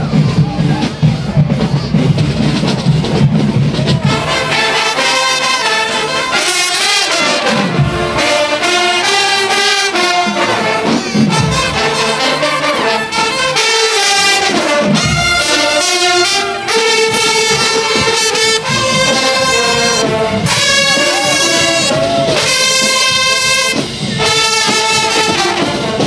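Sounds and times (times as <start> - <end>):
marching band brass playing: 0.0 - 26.0.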